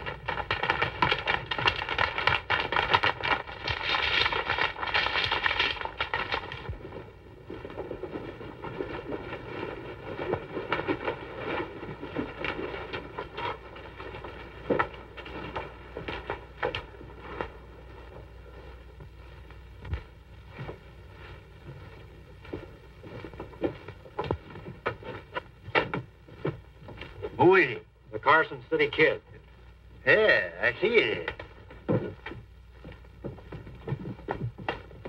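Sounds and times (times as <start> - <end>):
horse hoofbeats clattering: 0.0 - 27.7, 31.0 - 35.0.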